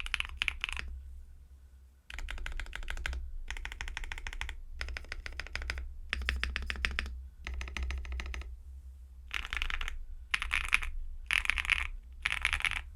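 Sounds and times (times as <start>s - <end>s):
mechanical keyboard typing: 0.0s - 0.9s, 2.1s - 8.5s, 9.3s - 12.9s.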